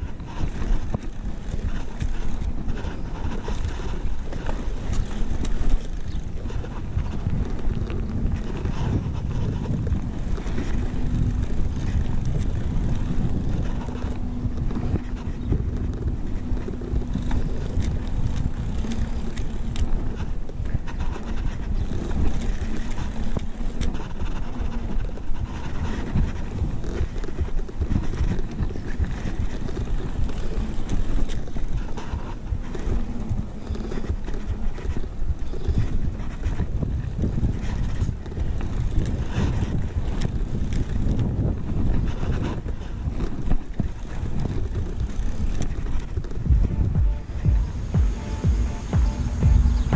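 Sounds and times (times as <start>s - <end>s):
bike knocks and rattles: 0.0s - 48.2s
bike tyres rumbling on concrete: 0.0s - 49.9s
wind buffeting camera: 0.0s - 49.9s.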